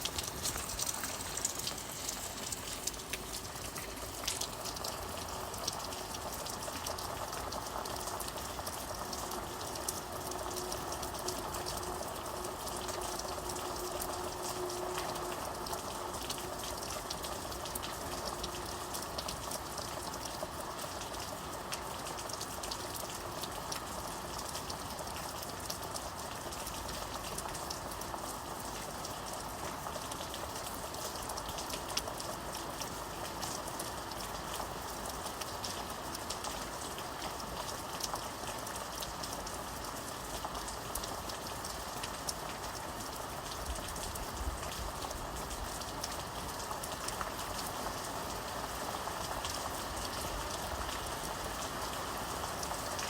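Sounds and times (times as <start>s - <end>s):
raindrops ticking on surface: 0.0s - 53.0s
steady rain: 0.0s - 53.0s.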